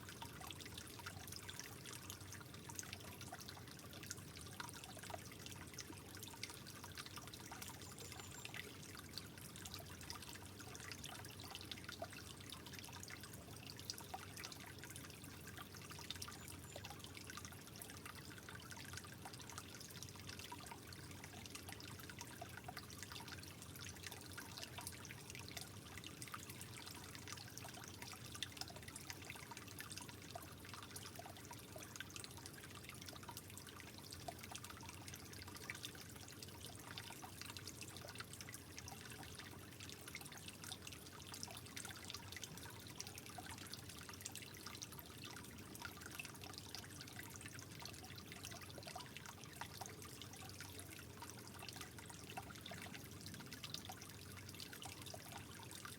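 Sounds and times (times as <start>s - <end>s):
water trickling and dripping: 0.0s - 55.9s.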